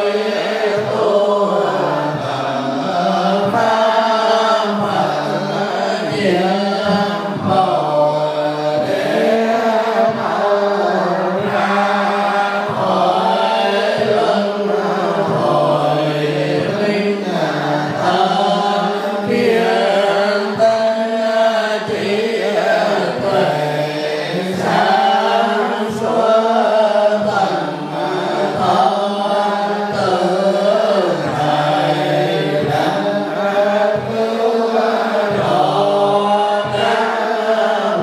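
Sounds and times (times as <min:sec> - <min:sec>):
group chanting in unison: 0:00.0 - 0:38.0.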